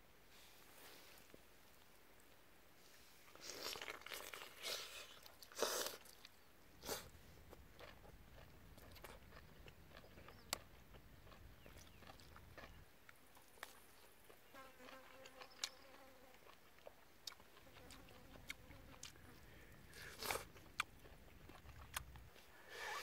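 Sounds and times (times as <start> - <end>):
wet chewing and lip-smacking: 3.4 - 22.5.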